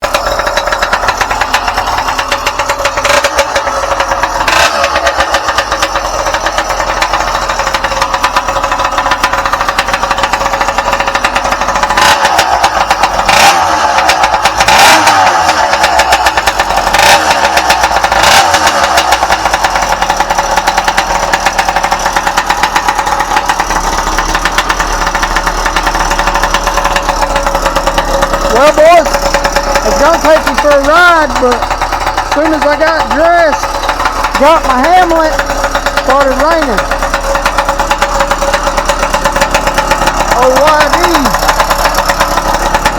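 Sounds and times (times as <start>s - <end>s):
motorbike engine idling: 0.0s - 42.9s
motorbike throttle blips: 0.0s - 42.9s.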